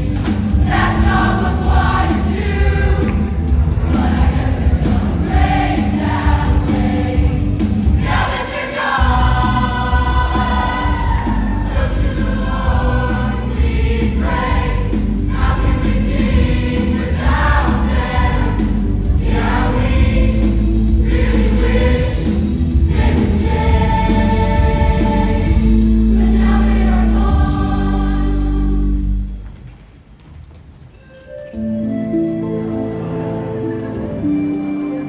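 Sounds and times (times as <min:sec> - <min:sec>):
choir singing gospel: 0:00.0 - 0:29.0.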